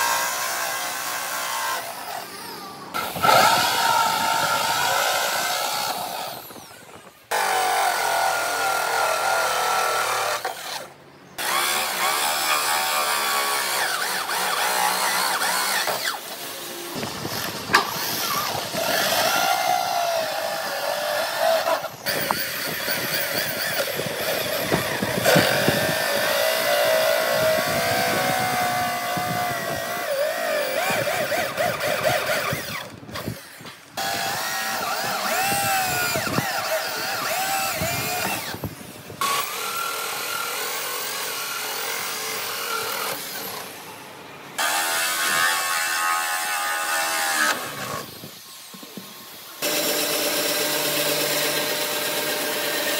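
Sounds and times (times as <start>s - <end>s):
electric drill cutting wood: 0.0s - 43.9s, 44.6s - 52.9s.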